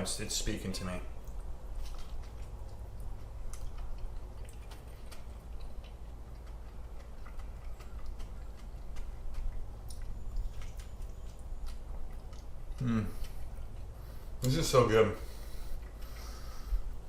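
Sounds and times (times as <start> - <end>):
low steady hum: 0.0 - 17.0
man chewing food: 1.2 - 14.5, 15.2 - 17.0.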